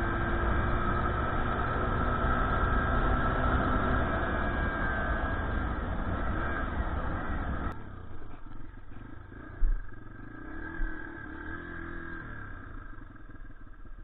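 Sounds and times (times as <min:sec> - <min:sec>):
dirt bike engine revving: 0:00.0 - 0:07.8, 0:08.9 - 0:13.4.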